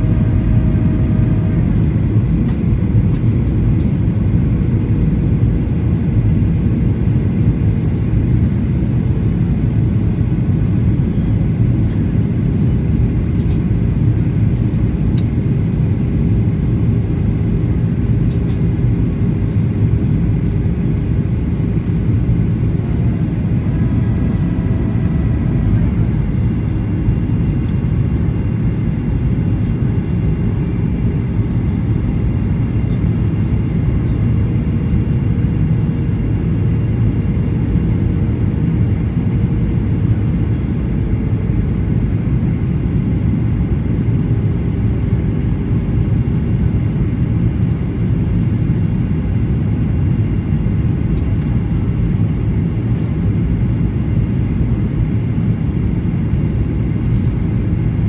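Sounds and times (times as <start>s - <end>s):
airliner cabin roar: 0.0s - 58.0s.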